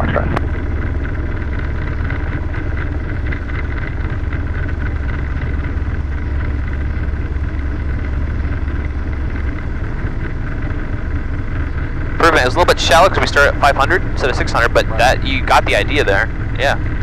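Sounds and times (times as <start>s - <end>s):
helicopter engine and rotors drone: 0.0s - 17.0s.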